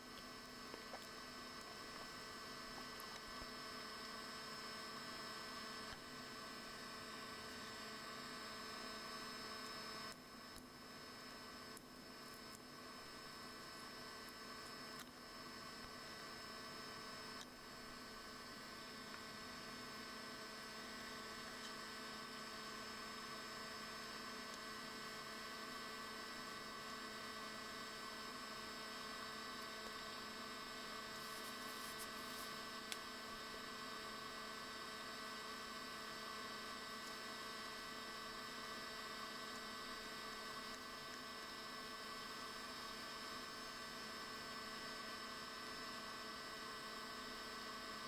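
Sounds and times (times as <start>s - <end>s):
electrical hum and hiss: 0.0s - 48.0s.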